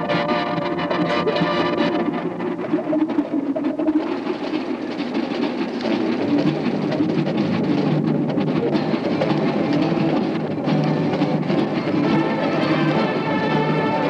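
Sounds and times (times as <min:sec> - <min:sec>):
faint held notes: 0:00.0 - 0:14.0
marching band playing: 0:00.0 - 0:14.0.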